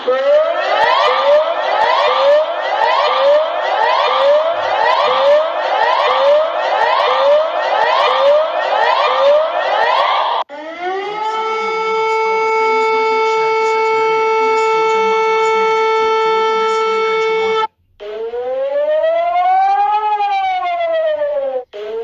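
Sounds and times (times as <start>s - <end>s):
civil defence siren: 0.0s - 22.0s
siren wail rising and falling: 0.0s - 22.0s.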